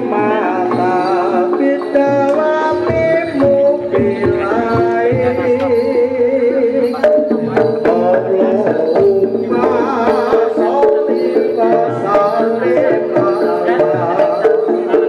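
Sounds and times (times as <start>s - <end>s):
hand drums in quick pattern: 0.0s - 15.0s
tuned pitched instruments: 0.0s - 15.0s
wavering melody line: 0.0s - 15.0s.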